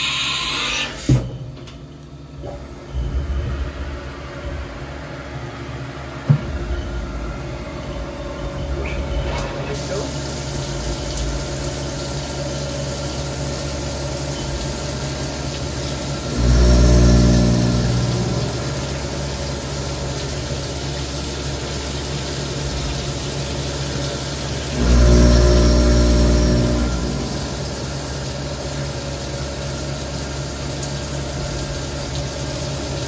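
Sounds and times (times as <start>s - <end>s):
machining center humming: 1.6s - 32.0s.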